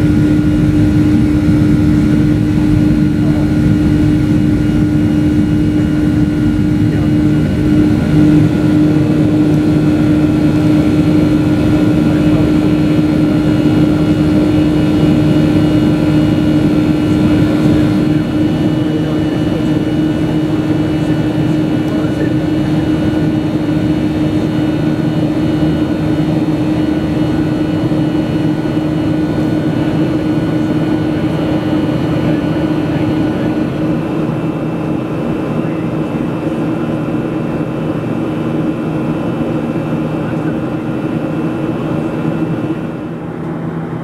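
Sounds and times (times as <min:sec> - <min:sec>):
aircraft engine drone in cabin: 0:00.0 - 0:44.0.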